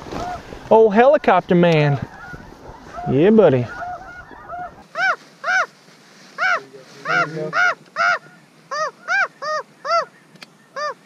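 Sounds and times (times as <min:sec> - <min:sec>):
goose honking: 0:00.1 - 0:05.7, 0:06.4 - 0:10.1.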